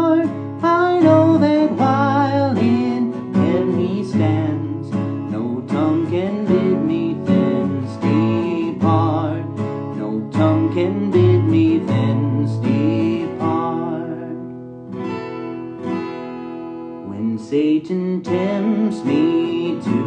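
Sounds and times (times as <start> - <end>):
man singing: 0.0 - 14.6, 17.0 - 20.0
acoustic guitar strumming: 0.0 - 20.0.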